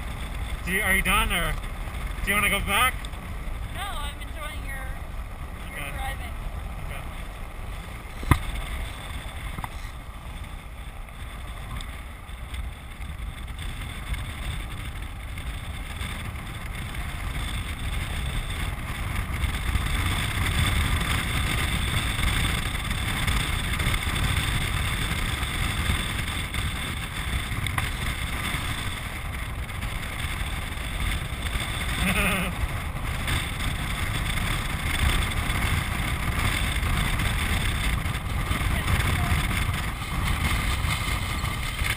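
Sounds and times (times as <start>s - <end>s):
wheels rolling: 0.0s - 41.9s
wind buffeting microphone: 0.0s - 41.9s.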